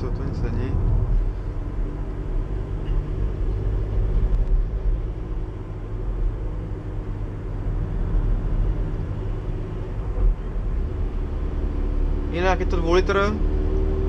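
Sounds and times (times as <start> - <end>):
engine and tyre rumble: 0.0 - 14.0.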